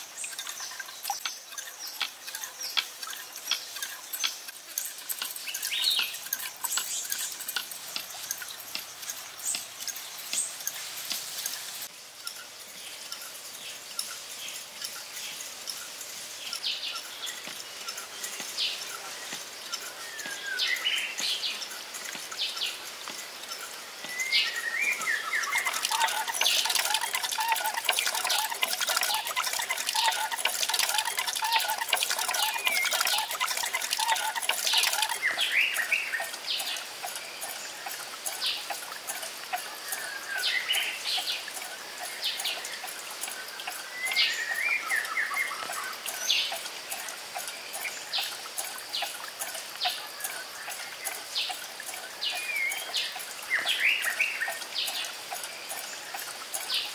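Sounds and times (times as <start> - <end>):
birds chirping and calling: 0.0 - 56.9
running water: 0.0 - 56.9
water splashing into a pond: 0.0 - 56.9.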